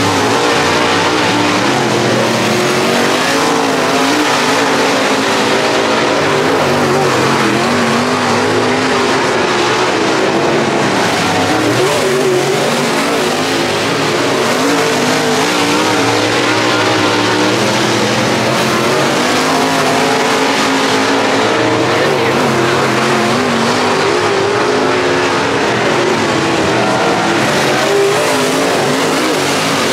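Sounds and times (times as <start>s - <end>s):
race car engines: 0.0s - 29.9s.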